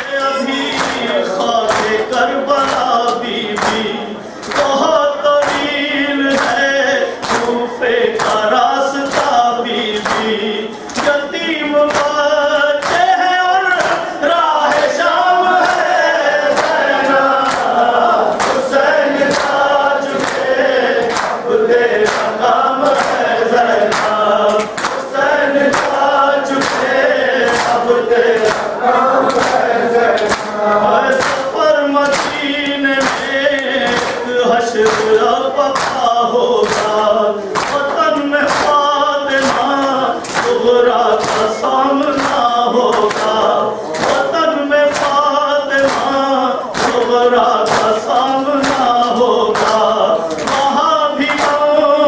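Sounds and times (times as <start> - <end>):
men chanting together: 0.0 - 52.0.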